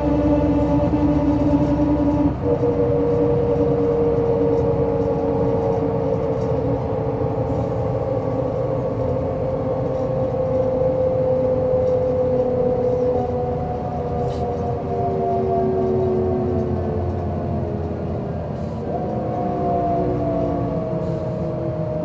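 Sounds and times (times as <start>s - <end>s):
bus engine rumble: 0.0s - 22.0s
high engine whine: 0.0s - 22.0s.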